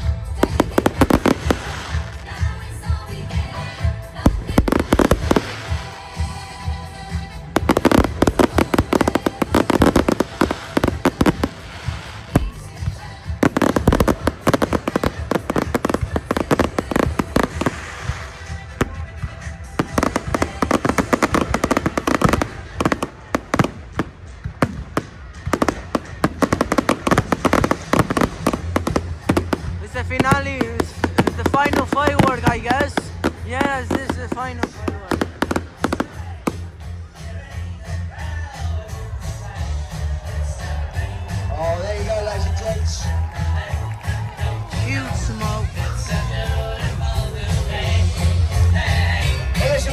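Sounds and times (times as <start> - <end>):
fireworks bangs and crackles: 0.0 - 49.9
music playing: 0.0 - 49.9.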